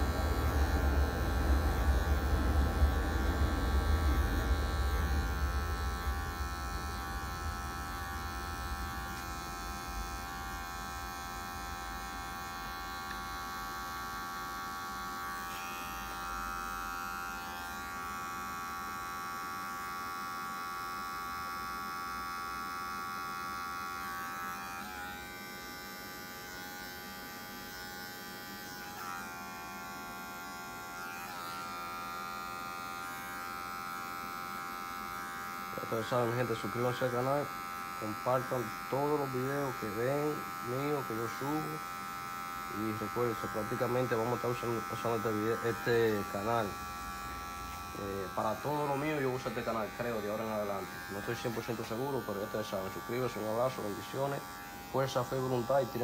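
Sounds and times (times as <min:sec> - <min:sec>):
electric hair clipper buzzing: 0:00.0 - 0:56.0.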